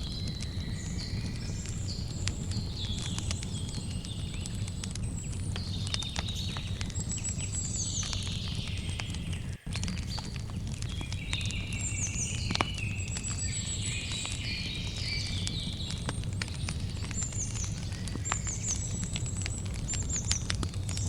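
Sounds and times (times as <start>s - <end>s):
birds chirping: 0.0s - 21.0s
campfire crackling and popping: 0.0s - 21.0s.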